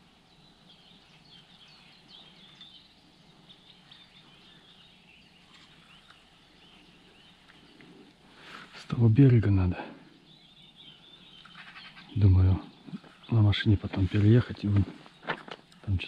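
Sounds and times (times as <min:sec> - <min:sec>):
faint birdsong chirping: 0:00.0 - 0:16.0.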